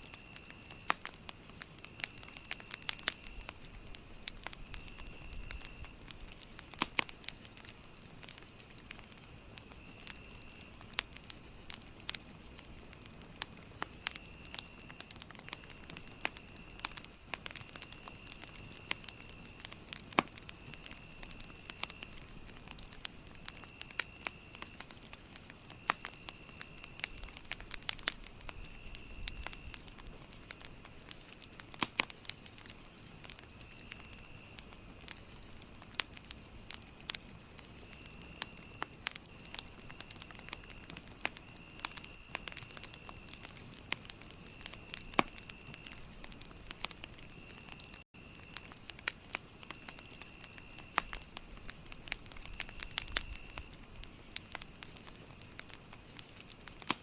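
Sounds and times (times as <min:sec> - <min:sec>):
lower insect trill: 0:00.0 - 0:56.9
campfire crackling and popping: 0:00.0 - 0:57.0
high continuous insect trill: 0:00.0 - 0:57.0.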